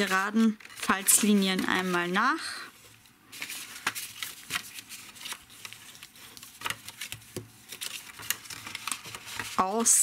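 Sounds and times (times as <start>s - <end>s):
paper folding and creasing: 0.0s - 10.0s.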